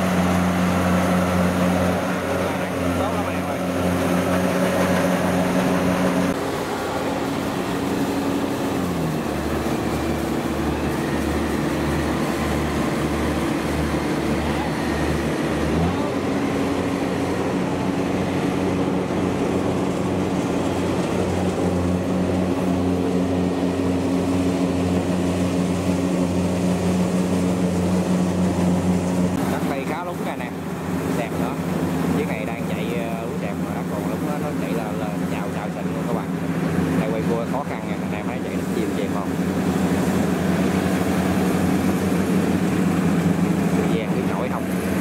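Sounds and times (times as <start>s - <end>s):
combine harvester engine running: 0.0s - 45.0s
tracked carrier engine running: 0.0s - 45.0s.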